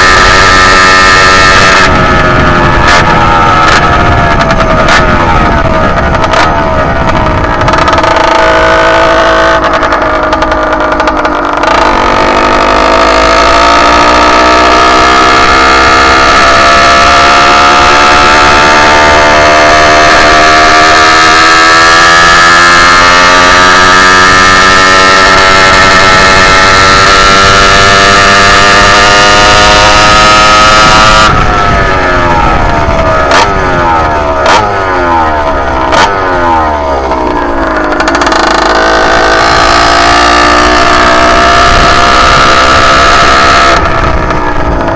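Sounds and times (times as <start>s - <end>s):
two-stroke engine revving: 0.0s - 44.9s.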